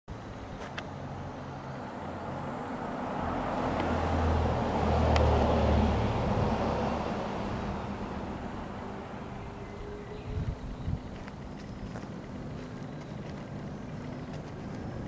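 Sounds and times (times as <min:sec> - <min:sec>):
vehicle passing by: 0:00.6 - 0:15.0.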